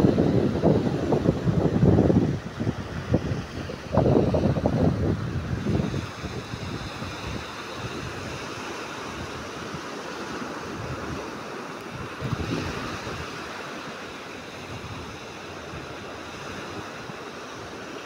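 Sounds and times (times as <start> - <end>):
waves washing onto sand: 0.0 - 18.0
wind rumble on microphone: 0.0 - 18.0.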